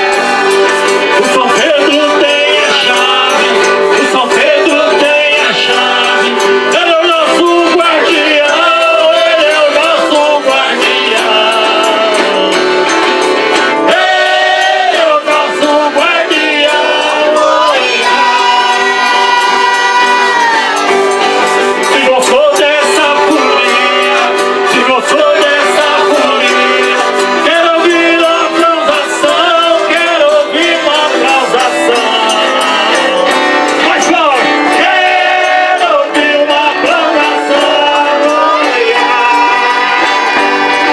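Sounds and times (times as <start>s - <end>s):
button accordion playing: 0.0s - 40.9s
group singing in unison: 0.0s - 40.9s.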